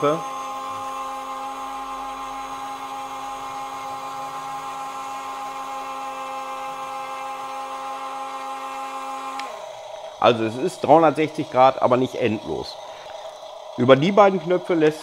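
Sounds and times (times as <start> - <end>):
motor stopping click: 0.0 - 13.4
electric motor whining: 0.0 - 15.0.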